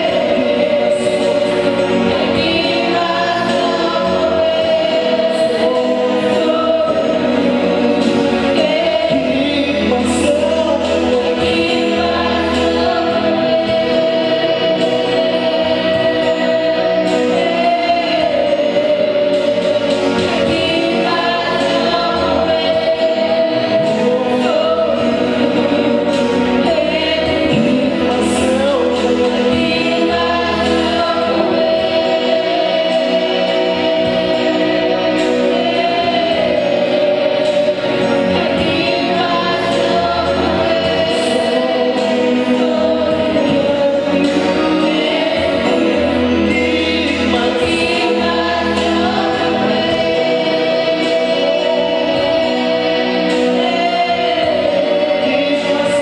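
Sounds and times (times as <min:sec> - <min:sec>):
choir singing gospel song: 0:00.0 - 0:56.0
instrumental accompaniment: 0:00.0 - 0:56.0.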